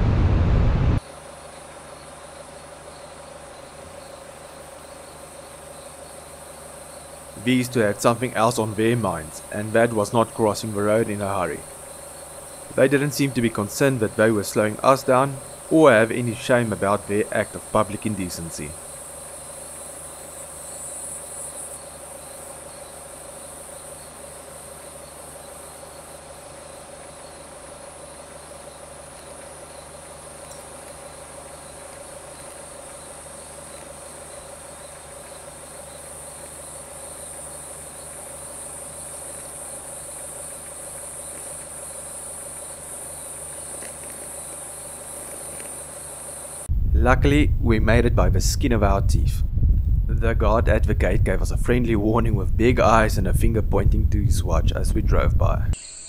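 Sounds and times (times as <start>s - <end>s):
steady low hum: 0.0s - 56.0s
insects chirring: 0.4s - 56.0s.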